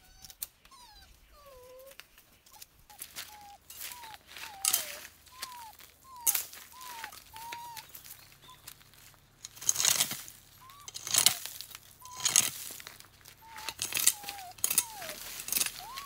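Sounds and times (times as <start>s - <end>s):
dog whimpering: 0.0s - 8.7s, 9.5s - 12.6s, 13.2s - 16.0s
rustling and crinkling: 0.1s - 16.0s.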